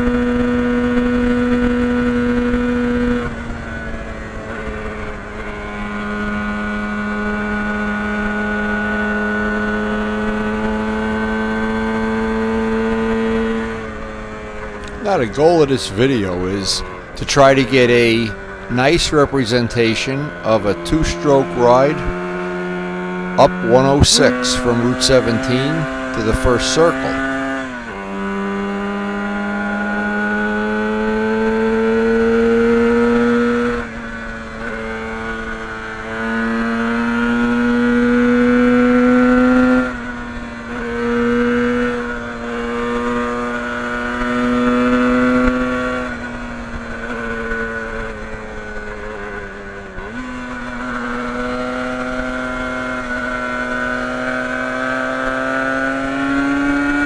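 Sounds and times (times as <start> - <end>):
motorcycle engine shifting gears: 0.0 - 57.0.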